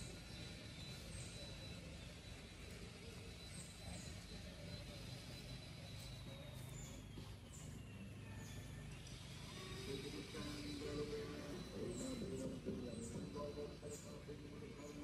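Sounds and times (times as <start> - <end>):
faint high chirps: 0.0 - 15.0.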